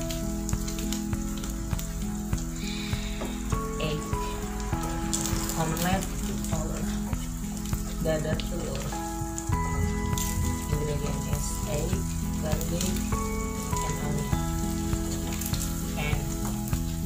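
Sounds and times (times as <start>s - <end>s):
background music of held notes: 0.0s - 17.0s
omelet sizzling in a pan: 0.0s - 17.0s.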